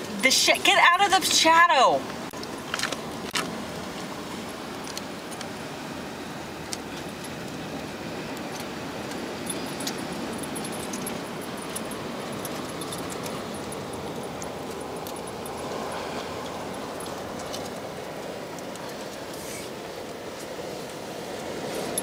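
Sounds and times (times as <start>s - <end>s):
sea washing on rocky shore: 0.0s - 22.0s.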